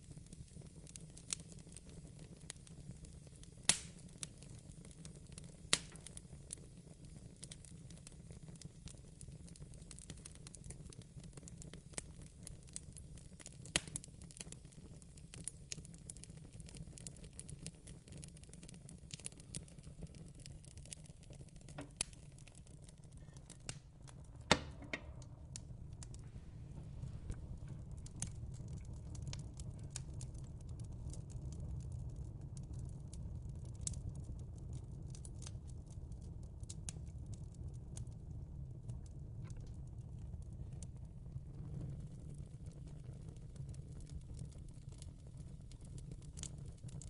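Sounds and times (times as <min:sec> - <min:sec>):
fireplace crackling: 0:00.0 - 0:47.0
sharp fire snaps: 0:00.0 - 0:47.0.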